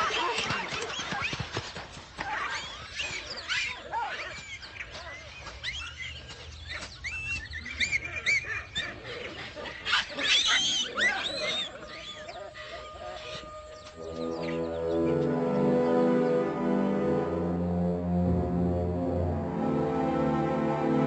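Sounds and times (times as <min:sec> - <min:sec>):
birds chirping: 0:00.0 - 0:17.8.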